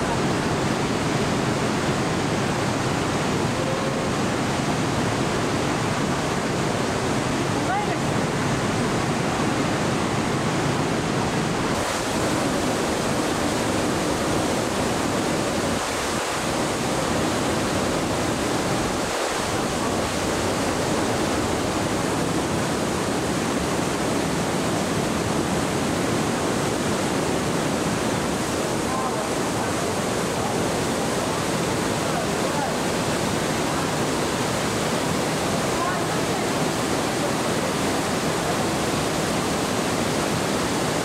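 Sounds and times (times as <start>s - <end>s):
rushing waterfall: 0.0s - 41.0s.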